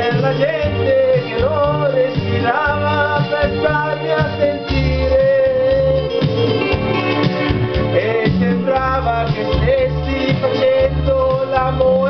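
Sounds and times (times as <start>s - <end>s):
man singing: 0.0s - 6.4s, 7.8s - 12.0s
backing track with bass and guitar: 0.0s - 12.0s.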